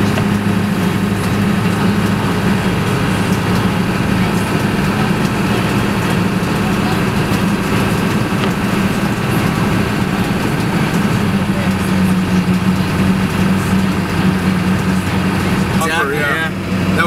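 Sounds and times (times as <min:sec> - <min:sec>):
road rushing noise: 0:00.0 - 0:17.0
vehicle engine hum: 0:00.0 - 0:17.0.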